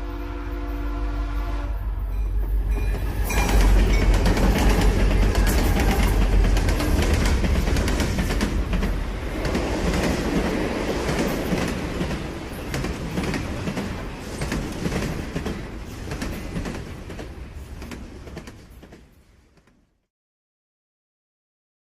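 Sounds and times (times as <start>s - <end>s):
train rumbling on rails: 0.0s - 20.0s
clattering train wheels: 2.0s - 19.8s.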